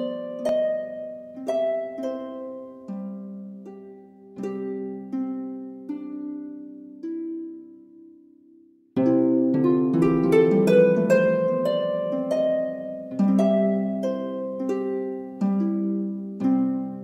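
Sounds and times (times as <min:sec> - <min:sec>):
gentle instrumental music: 0:00.0 - 0:17.0.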